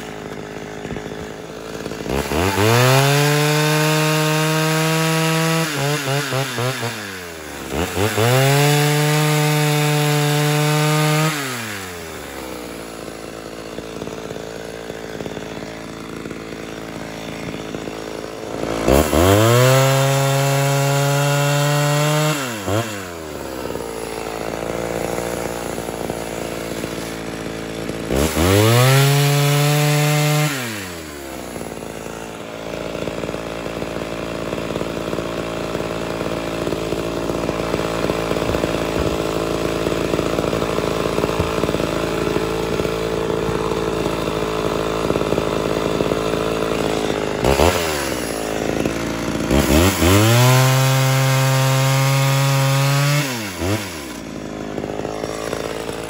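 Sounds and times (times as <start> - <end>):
chain cutting through log: 0.0 - 56.0
chainsaw revving: 0.0 - 56.0.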